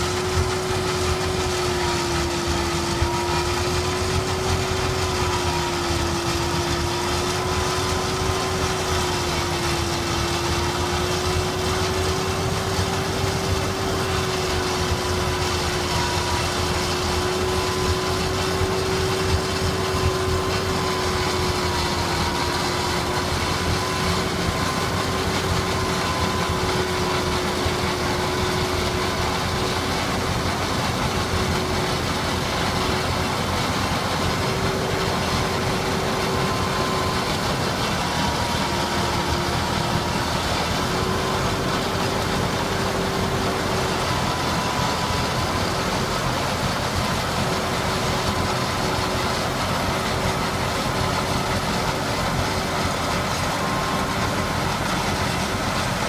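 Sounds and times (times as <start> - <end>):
machine whine: 0.0 - 56.0.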